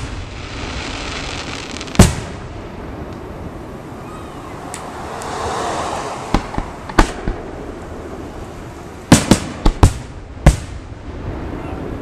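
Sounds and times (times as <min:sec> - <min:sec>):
fireworks bursting: 0:00.0 - 0:11.6.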